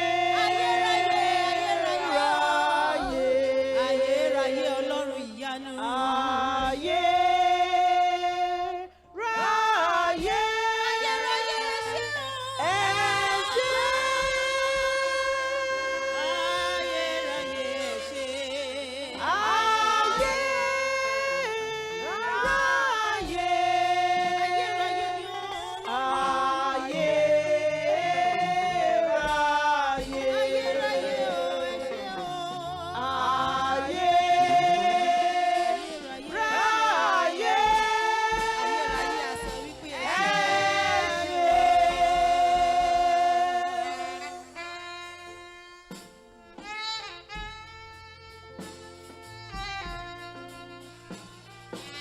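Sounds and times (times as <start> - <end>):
gospel choir singing: 0.0 - 47.4.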